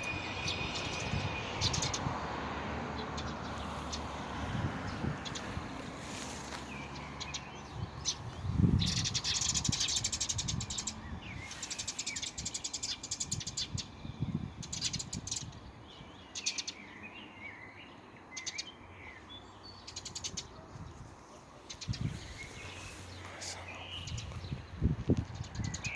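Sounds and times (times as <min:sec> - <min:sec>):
birds singing with trills: 0:00.0 - 0:25.9.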